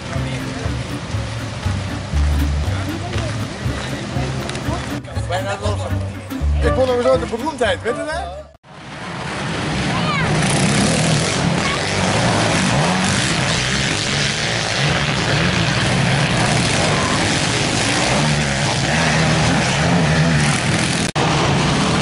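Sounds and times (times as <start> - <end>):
racing quad engines revving: 0.0 - 6.6, 9.8 - 22.0.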